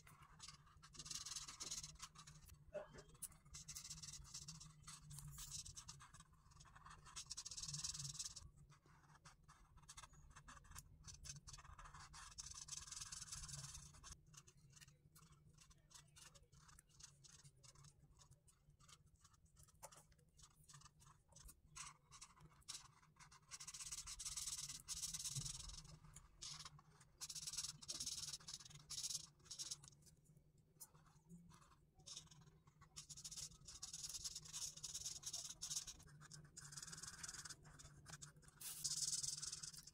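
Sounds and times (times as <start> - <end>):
marker scratching on paper: 0.0 - 30.0, 30.9 - 39.9.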